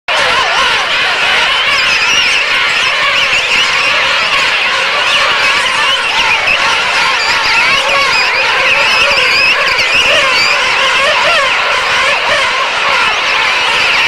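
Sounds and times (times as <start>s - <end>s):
penguin colony calling: 0.1s - 14.0s.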